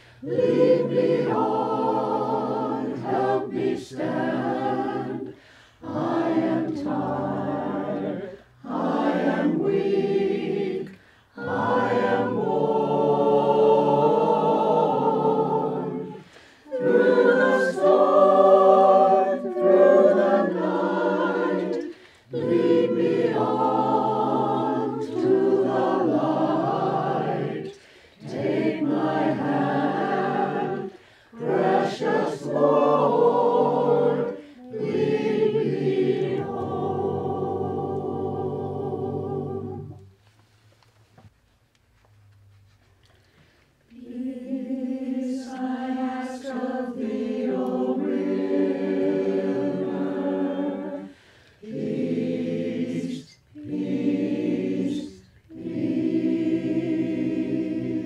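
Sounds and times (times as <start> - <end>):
a cappella choir singing a hymn: 0.0 - 40.3, 43.4 - 58.0.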